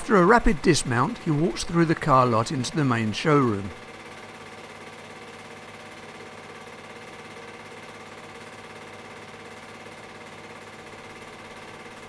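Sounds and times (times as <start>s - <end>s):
steady machine hum: 0.0s - 9.9s.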